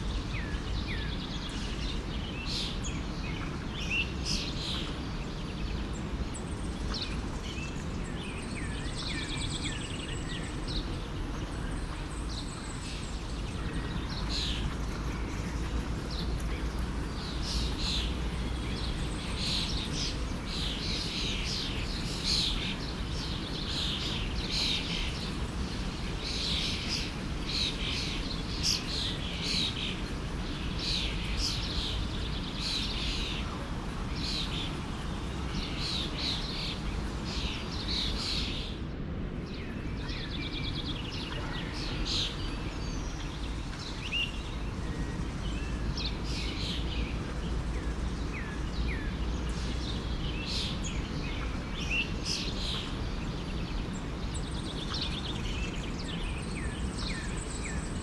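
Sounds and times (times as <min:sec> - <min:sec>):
songbirds chirping: 0:00.0 - 0:58.0
stream flowing: 0:10.2 - 0:38.5, 0:39.8 - 0:58.0.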